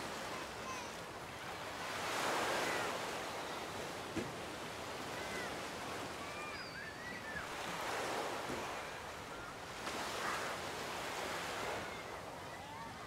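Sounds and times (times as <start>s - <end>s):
ocean waves on beach: 0.0s - 13.0s.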